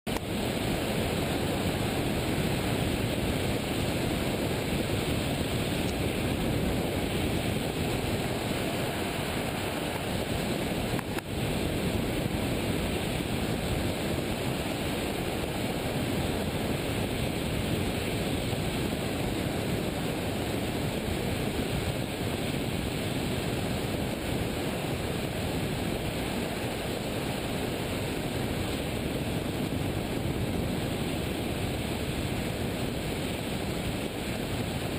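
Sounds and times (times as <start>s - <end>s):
wind rushing on microphone: 0.1s - 34.9s.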